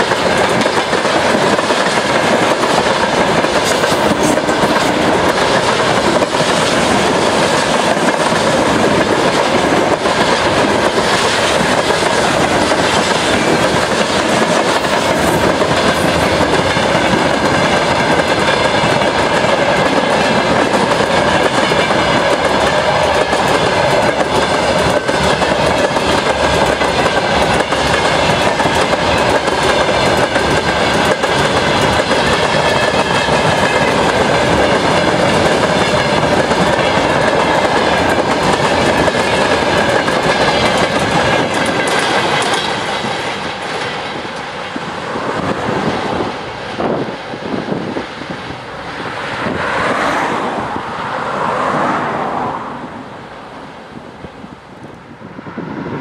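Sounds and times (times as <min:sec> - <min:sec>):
train wheels clattering on rails: 0:00.0 - 0:50.8.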